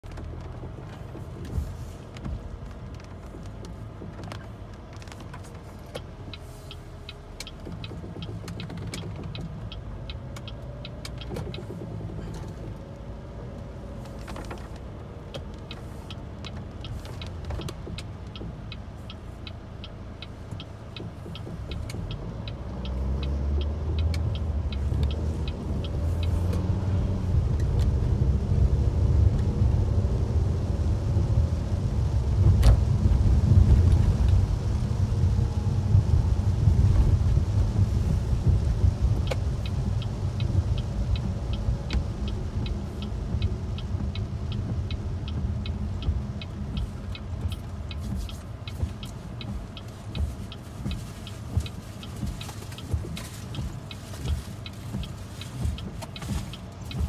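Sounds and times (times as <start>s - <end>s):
car engine and road rumble: 0.0s - 57.0s
raindrops ticking on windshield: 0.0s - 57.0s.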